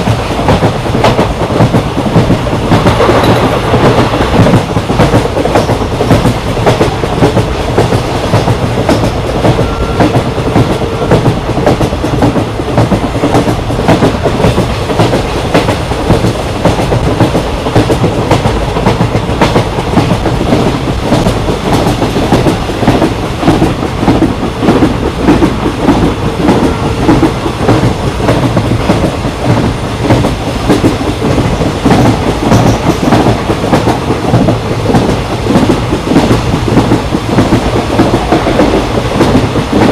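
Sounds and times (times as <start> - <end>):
train rumble: 0.0 - 39.9
train wheels clattering: 0.0 - 39.9.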